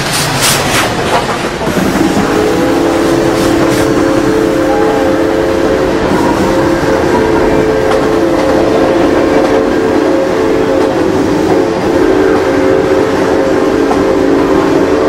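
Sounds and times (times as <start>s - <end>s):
train rumbling: 0.0s - 15.0s
train chime whistle chord: 2.2s - 15.0s.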